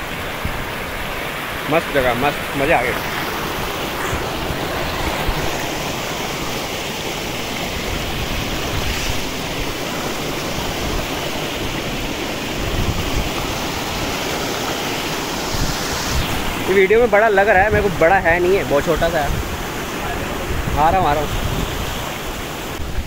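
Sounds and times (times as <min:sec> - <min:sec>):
water falling down a waterfall: 0:00.0 - 0:23.0.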